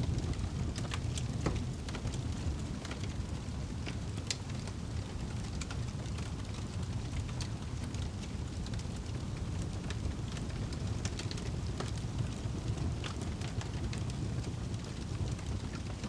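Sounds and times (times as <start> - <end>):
fire crackling and popping: 0.0 - 16.0
wood fire burning: 0.0 - 16.0.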